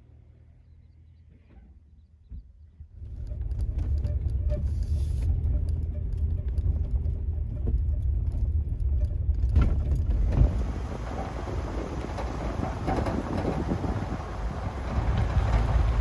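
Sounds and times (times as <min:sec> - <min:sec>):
truck engine and road rumble: 0:00.0 - 0:16.0
wind noise: 0:02.3 - 0:16.0.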